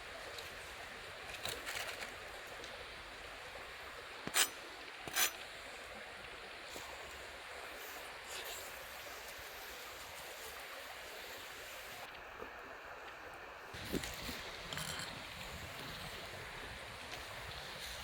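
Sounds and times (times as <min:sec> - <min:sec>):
campfire hissing and crackling: 0:00.0 - 0:13.0, 0:13.6 - 0:18.0.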